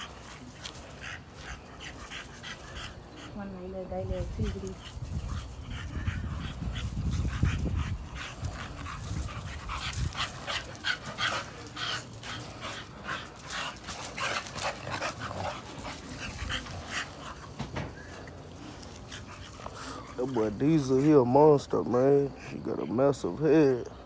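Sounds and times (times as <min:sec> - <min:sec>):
puppies play-fighting: 0:00.0 - 0:24.0.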